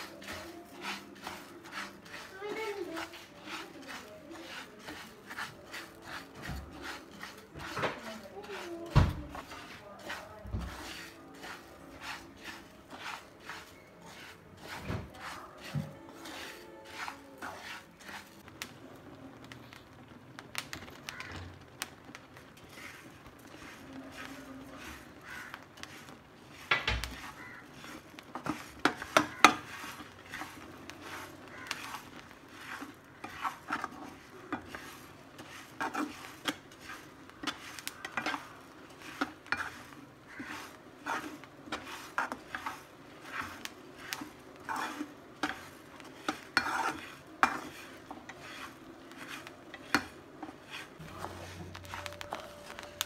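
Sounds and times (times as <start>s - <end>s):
metal spoon scraping a metal pan: 0.0s - 18.5s, 22.6s - 53.0s.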